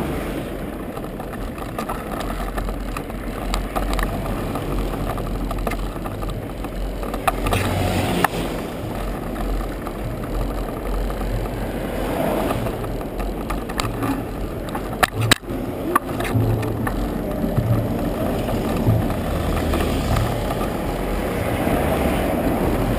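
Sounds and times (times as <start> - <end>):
bicycle tyres rumbling on pavement: 0.0 - 22.9
knocks and rattles over bumps: 0.0 - 22.9.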